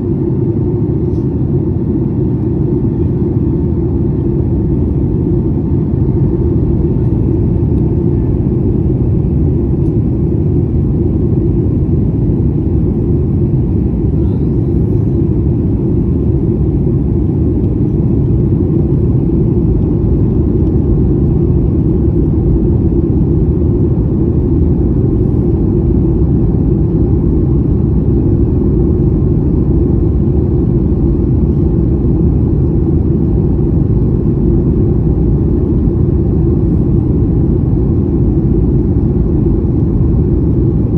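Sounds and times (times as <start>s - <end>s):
airliner cabin noise in flight: 0.0s - 40.9s.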